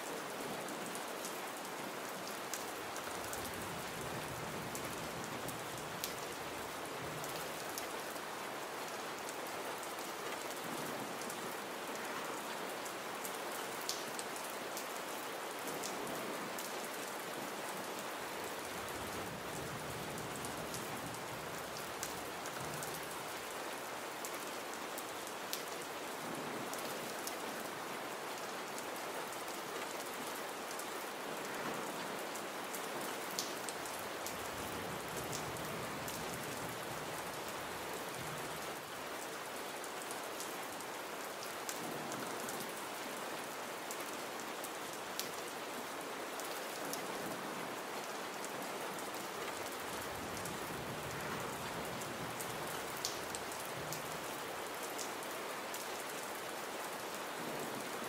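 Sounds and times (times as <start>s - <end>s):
gentle rain hissing: 0.0s - 15.6s, 16.3s - 28.8s, 32.2s - 43.9s, 49.1s - 57.3s.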